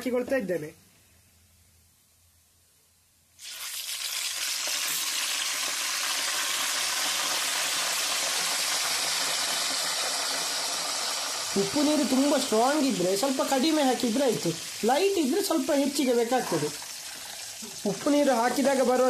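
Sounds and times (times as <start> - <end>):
oil sizzling: 3.4 - 19.0.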